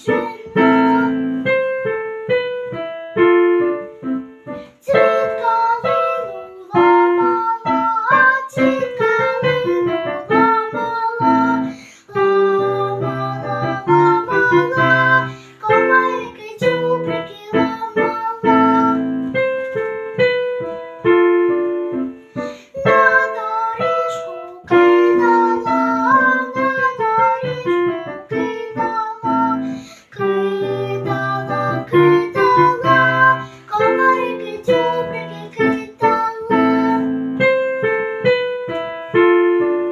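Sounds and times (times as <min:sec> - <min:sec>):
child singing: 0:00.0 - 0:04.0, 0:04.6 - 0:21.6, 0:22.6 - 0:39.7
piano melody over chords: 0:00.0 - 0:39.9.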